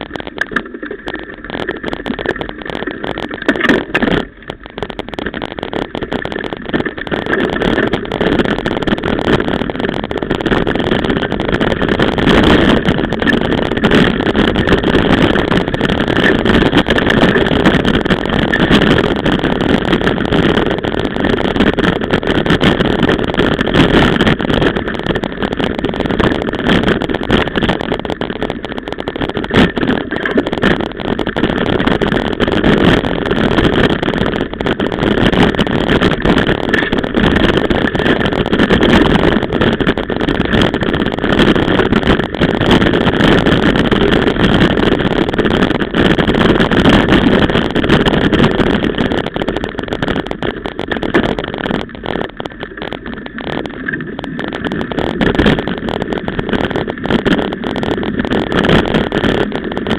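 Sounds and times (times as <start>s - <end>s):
bike rattling and knocking: 0.0s - 59.9s
wind and tyre rumble: 0.0s - 59.9s.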